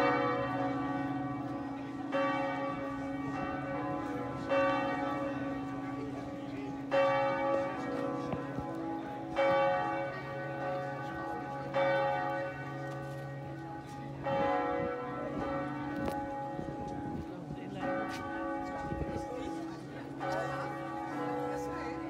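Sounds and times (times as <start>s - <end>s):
church bells clanging: 0.0s - 22.0s.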